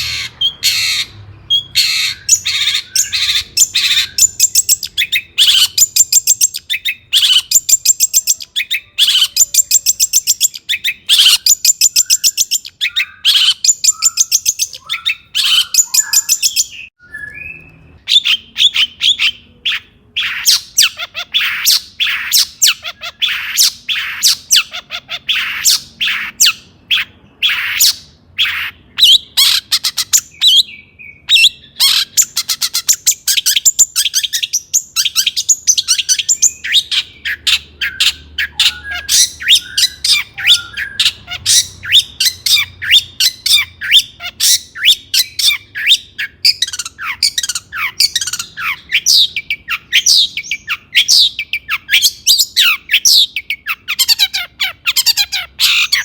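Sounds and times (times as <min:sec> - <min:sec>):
bird harsh sharp notes: 0:00.0 - 0:56.0
bird singing chattering notes: 0:00.0 - 0:56.0.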